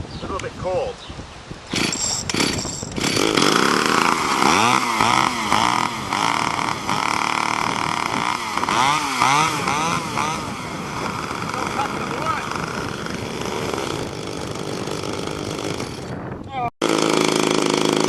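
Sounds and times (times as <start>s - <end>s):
two-stroke engine revving: 1.7s - 16.2s, 16.8s - 18.0s.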